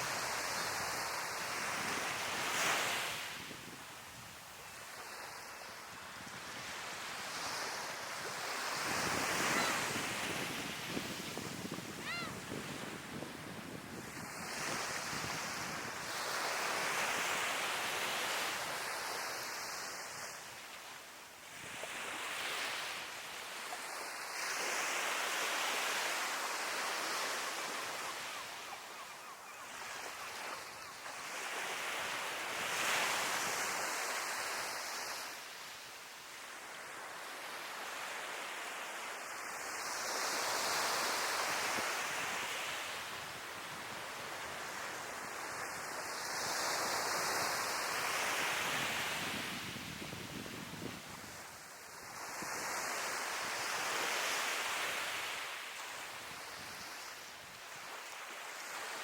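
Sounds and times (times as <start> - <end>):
sea waves breaking on beach: 0.0 - 20.8, 21.4 - 35.8, 36.4 - 59.0.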